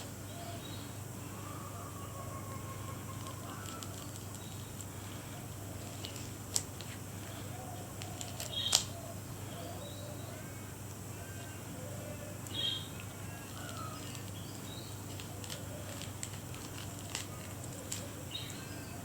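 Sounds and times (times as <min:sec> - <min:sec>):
birds chirping and warbling: 0:00.0 - 0:05.7, 0:07.0 - 0:19.0
low steady hum: 0:00.0 - 0:19.0.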